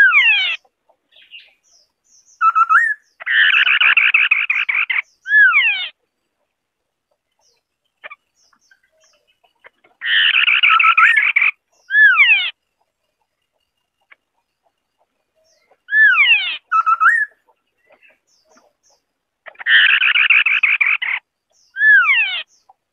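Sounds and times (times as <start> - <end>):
bird chattering and whistling: 0.0 - 6.0, 7.2 - 22.8.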